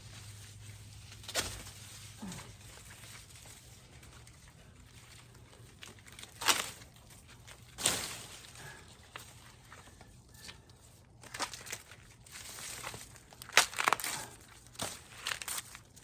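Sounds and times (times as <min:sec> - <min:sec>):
corn leaves crackling rustle: 0:00.0 - 0:16.0.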